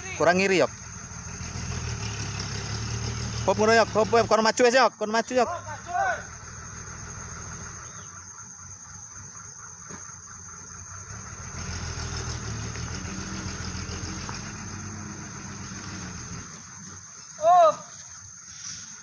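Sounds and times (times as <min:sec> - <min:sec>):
truck diesel engine revving: 0:00.0 - 0:17.3.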